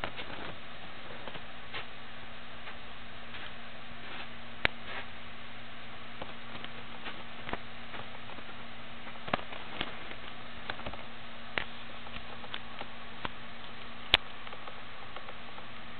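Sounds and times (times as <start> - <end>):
faint low hum: 0.0 - 15.9
steady hiss: 0.0 - 15.9.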